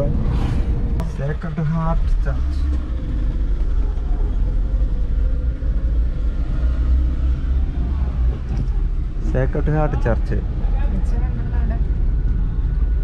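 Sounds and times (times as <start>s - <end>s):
vehicle engine and tyres rumble: 0.0s - 13.0s.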